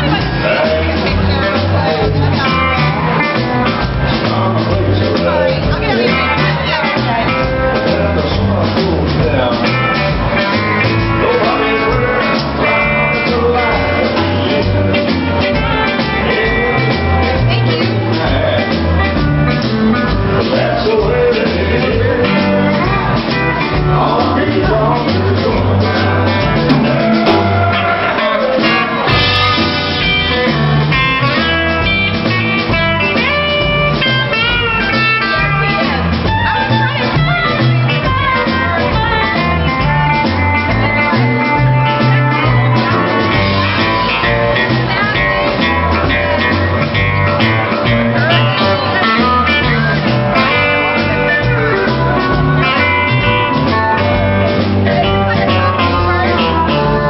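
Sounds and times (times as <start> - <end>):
drums: 0.0 - 57.0
electric guitar: 0.0 - 57.0
man singing: 0.0 - 57.0
upright bass: 0.0 - 57.0.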